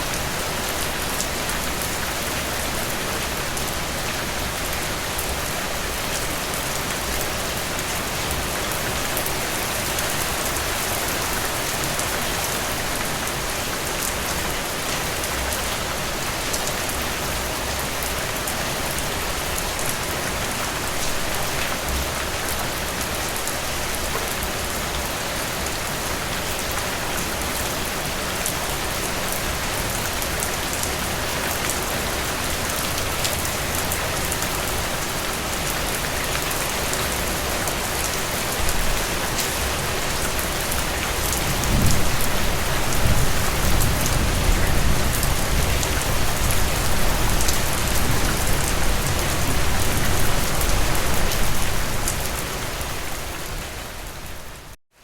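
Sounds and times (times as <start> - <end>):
heavy rain falling: 0.0 - 54.8.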